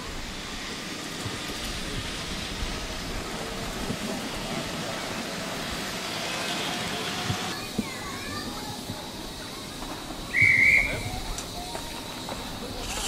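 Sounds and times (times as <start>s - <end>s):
miniature train running past: 0.0s - 13.0s.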